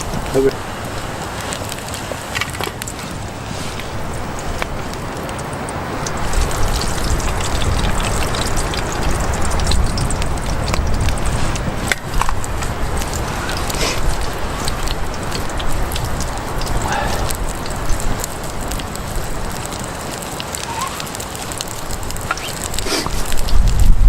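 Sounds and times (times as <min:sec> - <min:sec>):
rain hissing: 0:00.0 - 0:24.0
raindrops ticking: 0:00.0 - 0:24.0.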